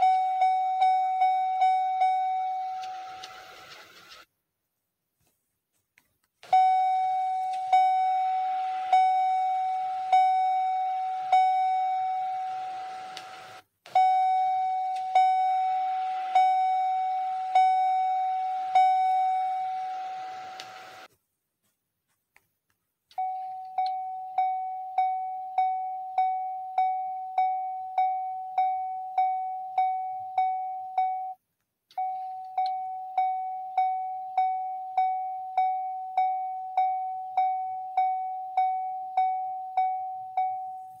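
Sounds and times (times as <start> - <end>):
vehicle warning chime dings: 0.0 - 3.7, 6.4 - 21.1, 23.2 - 41.0.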